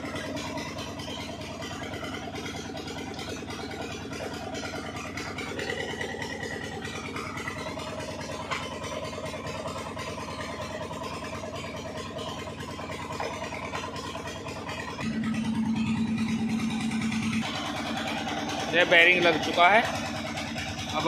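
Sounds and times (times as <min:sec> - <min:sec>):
engine idling: 0:00.0 - 0:21.0
loud steady hum: 0:00.0 - 0:21.0.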